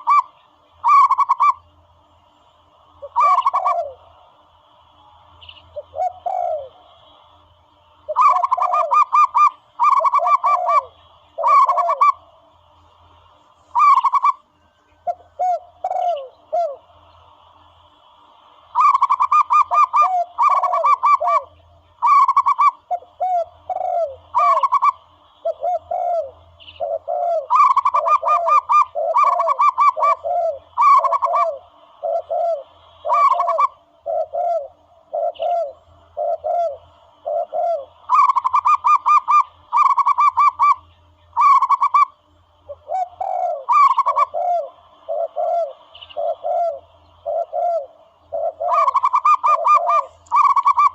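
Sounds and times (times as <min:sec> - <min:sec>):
dove cooing: 0:00.0 - 0:01.8, 0:03.0 - 0:04.4, 0:05.7 - 0:07.4, 0:08.0 - 0:12.4, 0:13.7 - 0:17.1, 0:18.7 - 0:50.9.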